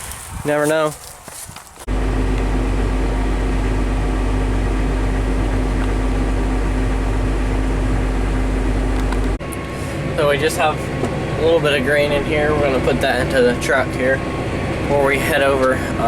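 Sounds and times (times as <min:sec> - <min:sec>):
farm machinery engine droning: 0:01.3 - 0:16.0.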